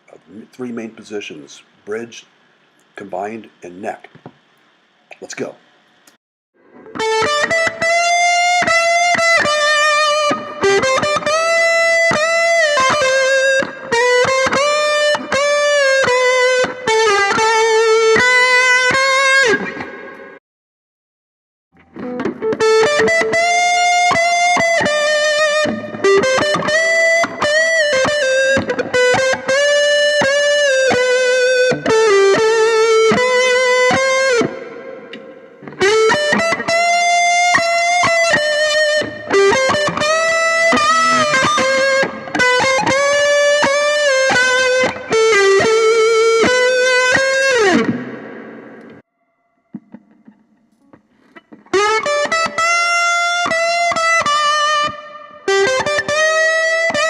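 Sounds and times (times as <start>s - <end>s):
overdriven electric guitar lead: 6.6s - 20.3s, 21.8s - 49.0s, 49.7s - 57.0s.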